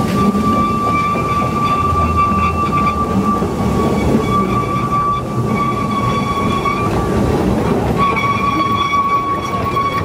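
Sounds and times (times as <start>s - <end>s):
steam train rumble: 0.0s - 10.0s.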